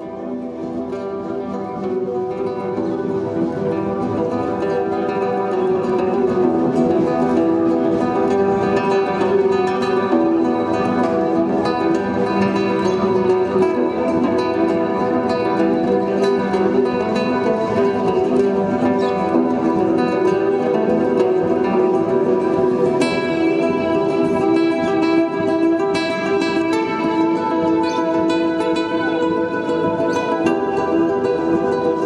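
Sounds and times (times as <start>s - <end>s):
fingerstyle classical guitar: 0.0s - 32.0s.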